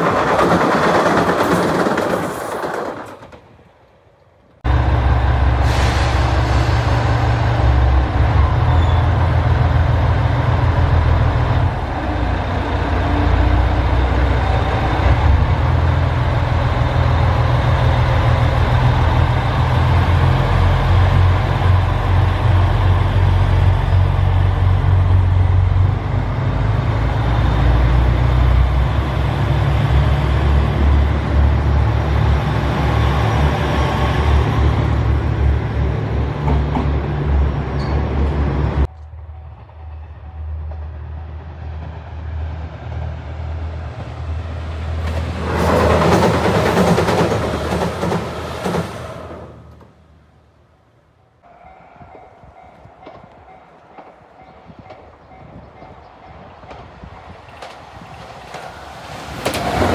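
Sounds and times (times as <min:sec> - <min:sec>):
diesel train engine rumbling: 0:00.0 - 0:59.9.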